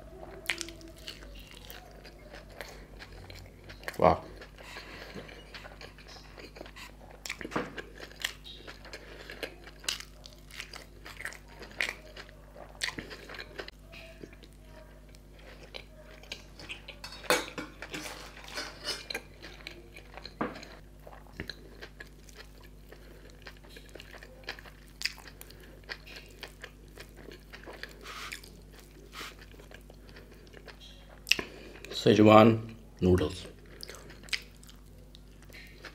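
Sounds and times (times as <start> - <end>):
faint steady hum: 0.0 - 35.9
person chewing food: 0.2 - 32.0, 32.9 - 35.9.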